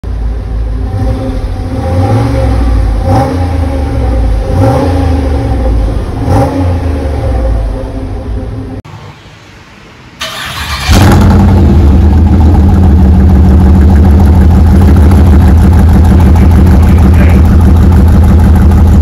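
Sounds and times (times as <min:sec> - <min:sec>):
engine throttle blips: 0:00.0 - 0:09.2, 0:10.2 - 0:19.0
car engine idling: 0:00.0 - 0:09.4, 0:10.0 - 0:19.0.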